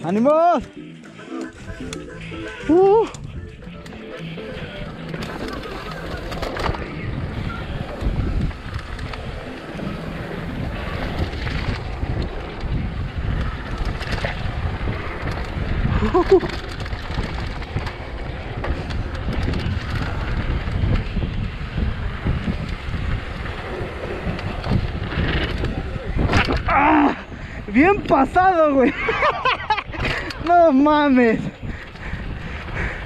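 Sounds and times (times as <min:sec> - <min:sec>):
mountain bike rumbling and rattling: 0:01.6 - 0:33.0
wind buffeting microphone: 0:03.0 - 0:33.0.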